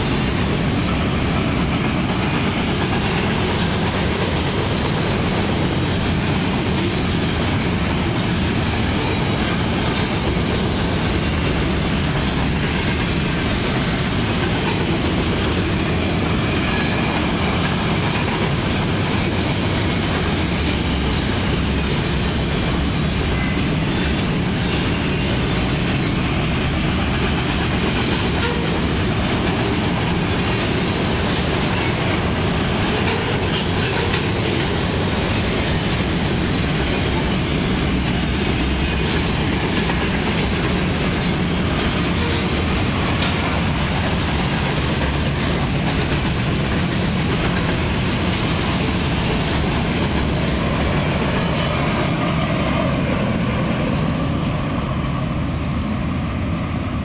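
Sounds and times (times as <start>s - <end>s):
freight train wheels rolling: 0.0s - 57.0s.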